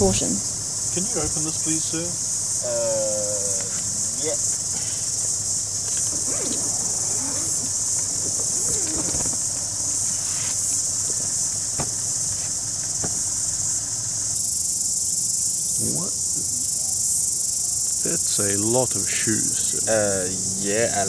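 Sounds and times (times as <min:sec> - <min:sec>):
insect shrilling: 0:00.0 - 0:21.0.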